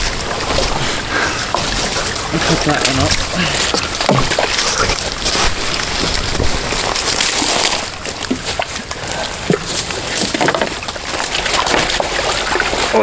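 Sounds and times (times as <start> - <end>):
creek water sloshing and splashing: 0.0 - 13.0.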